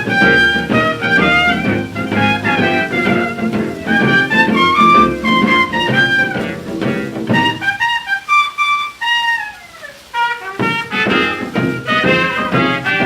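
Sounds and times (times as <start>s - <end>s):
horn line sliding downward: 0.0s - 13.0s
jazz band playing swing: 0.0s - 13.0s.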